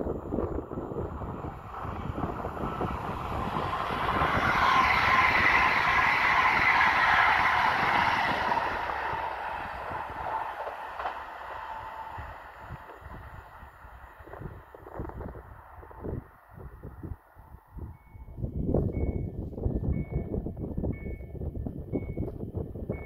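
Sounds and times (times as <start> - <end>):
electric train passing: 0.0 - 19.3.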